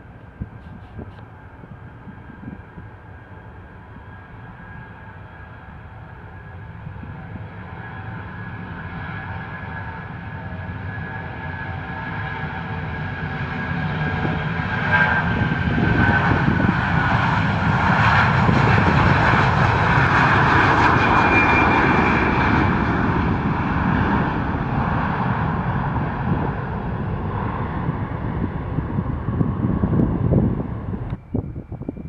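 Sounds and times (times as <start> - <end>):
airliner jet engines passing: 0.0 - 32.0.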